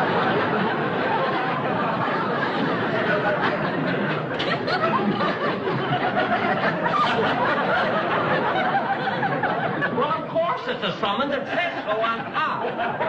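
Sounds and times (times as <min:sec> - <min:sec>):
studio audience laughing: 0:00.0 - 0:13.0.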